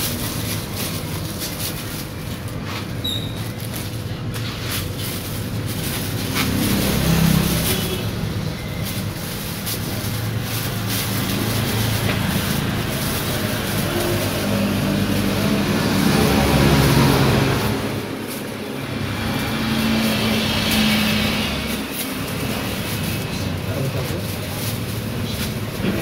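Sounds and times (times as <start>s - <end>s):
passing motor traffic: 0.0s - 26.0s
plastic bags crinkling: 0.0s - 26.0s.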